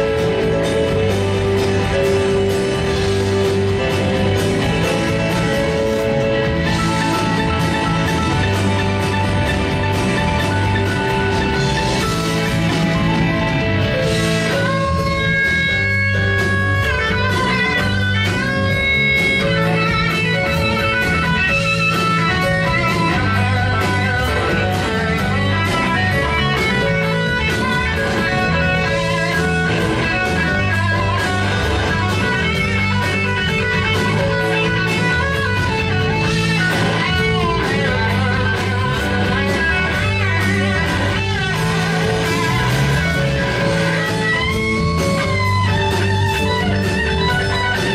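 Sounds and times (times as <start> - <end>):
blues-rock band playing: 0.0 - 47.9
electric guitar lead: 0.0 - 47.9.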